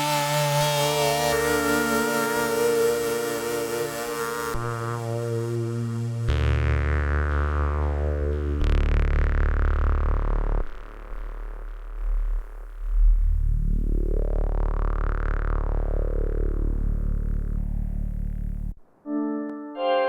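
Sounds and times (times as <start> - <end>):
deep synthesizer bass: 0.0 - 18.8.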